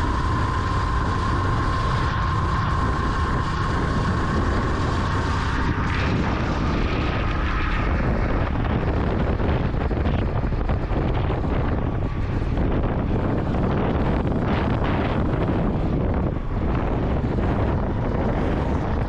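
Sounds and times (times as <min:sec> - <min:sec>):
motorcycle engine running: 0:00.0 - 0:19.0
steady whine: 0:00.0 - 0:19.0
wind and road noise: 0:00.0 - 0:19.0.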